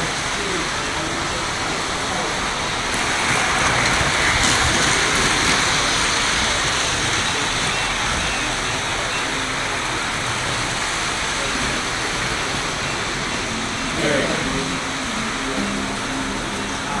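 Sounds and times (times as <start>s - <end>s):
model trains whirring on track: 0.0s - 17.0s.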